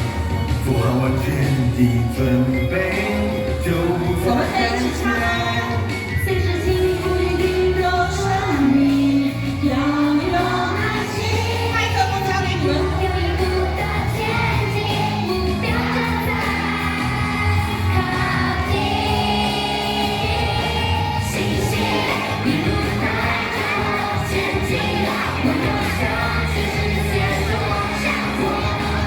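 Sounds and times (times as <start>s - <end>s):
pop backing track: 0.0s - 29.0s
voices singing together: 0.0s - 29.0s.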